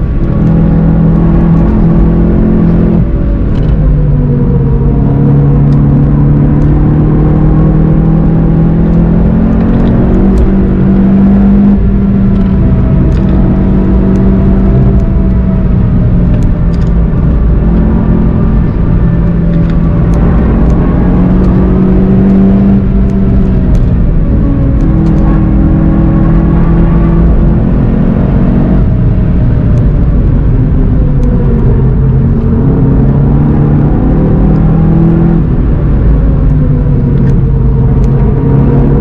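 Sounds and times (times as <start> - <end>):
car engine under hard load: 0.0 - 39.0
tyre and road noise: 0.0 - 39.0.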